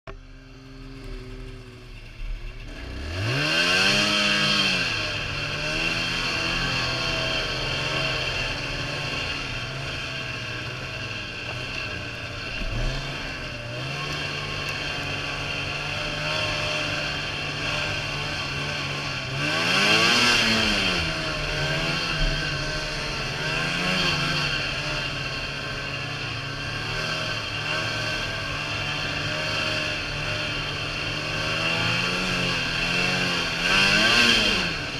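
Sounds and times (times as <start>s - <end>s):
snowmobile engine revving: 0.1s - 34.9s.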